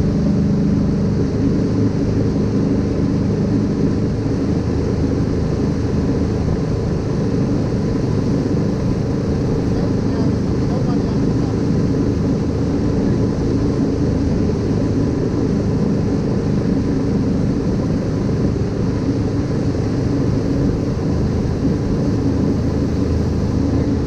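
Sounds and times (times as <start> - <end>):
boat engine running: 0.0 - 24.0
wind: 0.0 - 24.0.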